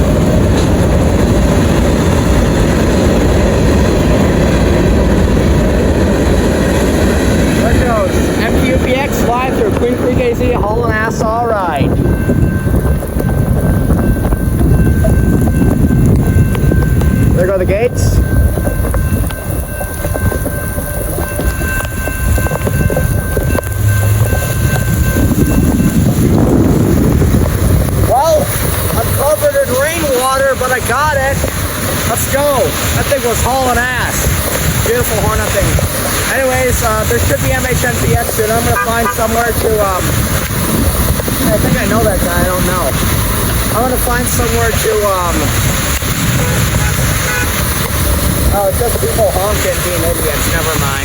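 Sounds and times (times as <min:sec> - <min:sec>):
heavy rain: 0:00.0 - 0:11.2, 0:18.4 - 0:51.0
freight train rumbling by: 0:00.0 - 0:51.0.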